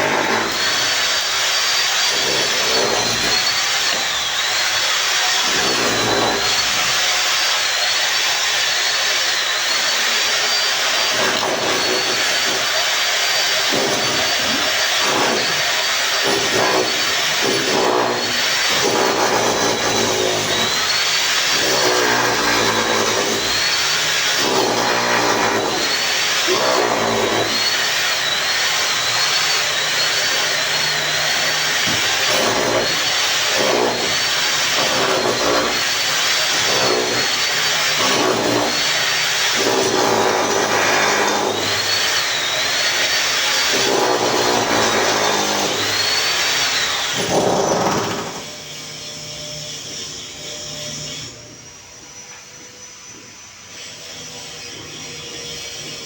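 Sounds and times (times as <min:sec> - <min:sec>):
power tool motor whining: 0:00.0 - 0:56.0.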